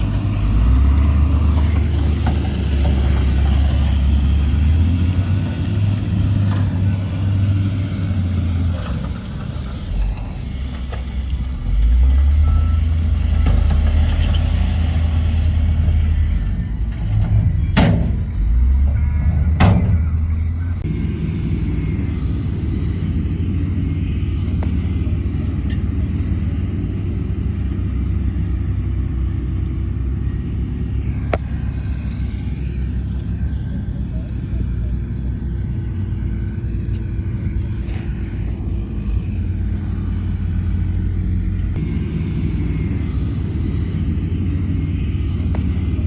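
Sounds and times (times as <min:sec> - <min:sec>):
diesel machinery rumbling: 0:00.0 - 0:46.0.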